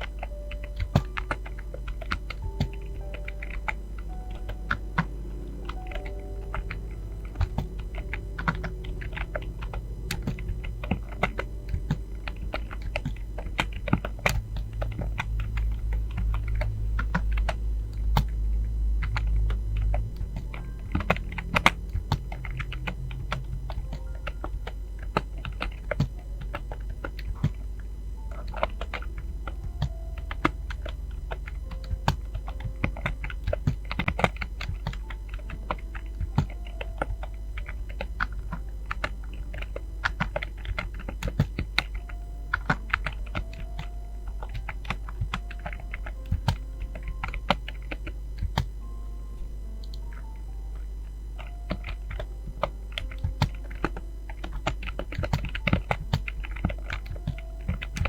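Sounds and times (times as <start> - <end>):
typing on computer keyboard: 0.0 - 48.7, 51.4 - 58.0
steady low hum: 0.0 - 58.0.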